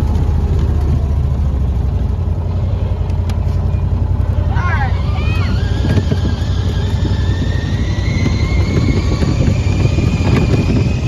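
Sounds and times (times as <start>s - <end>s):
utility vehicle engine rumble: 0.0s - 11.0s.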